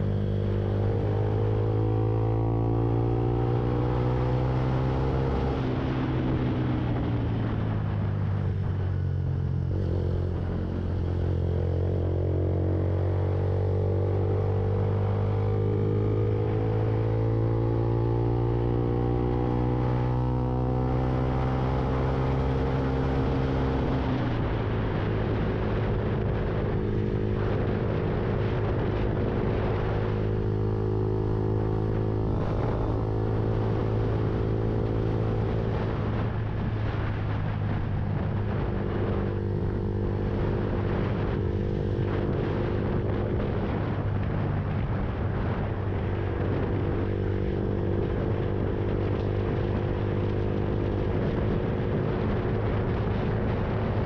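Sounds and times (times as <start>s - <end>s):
motorcycle engine running: 0.0s - 54.0s
wind rush: 0.0s - 54.0s.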